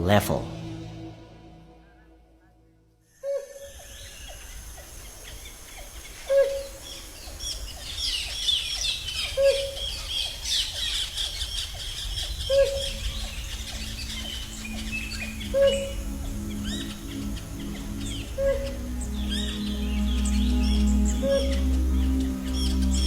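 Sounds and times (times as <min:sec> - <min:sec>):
bird call with falling tail: 0:03.2 - 0:23.0
chorus of bird chirps: 0:03.2 - 0:23.0.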